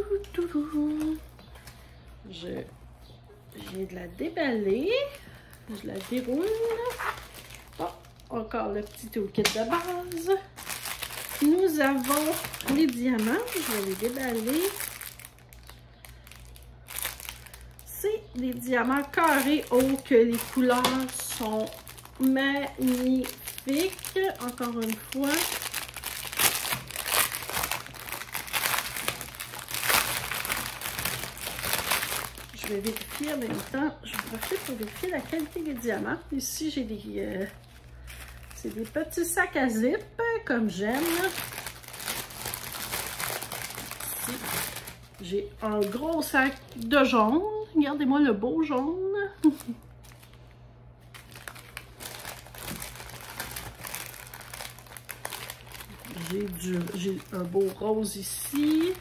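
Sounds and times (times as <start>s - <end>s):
plastic packaging crinkling: 0.0s - 2.1s, 3.4s - 40.1s, 40.7s - 47.5s, 49.4s - 59.0s.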